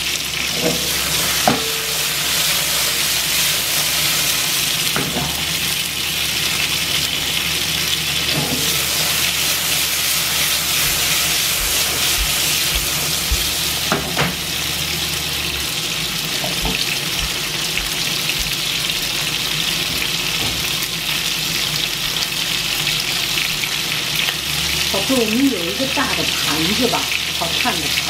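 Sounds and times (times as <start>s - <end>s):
peppers sizzling in oil: 0.0s - 28.0s.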